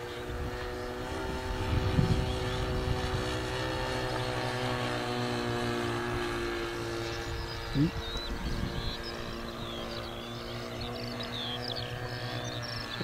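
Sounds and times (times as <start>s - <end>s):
model plane engine running: 0.0s - 13.0s.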